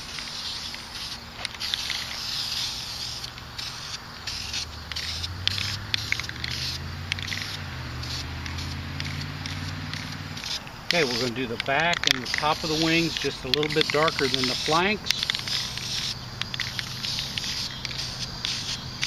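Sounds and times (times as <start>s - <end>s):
spray can hissing: 0.0s - 19.0s.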